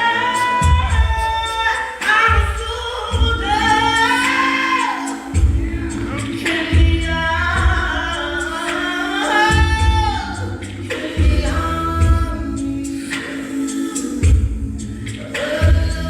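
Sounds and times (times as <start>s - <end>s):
backing track chords and bass: 0.0s - 13.2s, 14.0s - 16.0s
person singing gospel: 0.0s - 16.0s.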